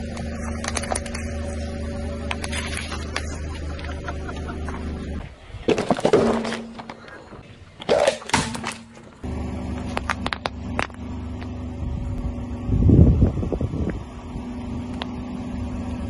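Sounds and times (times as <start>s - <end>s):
car engine hum: 0.0s - 16.0s.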